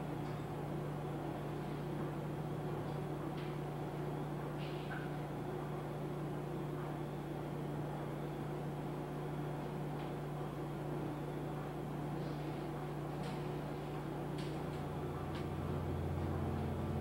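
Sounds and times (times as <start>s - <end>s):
laundry machines humming: 0.0s - 17.0s.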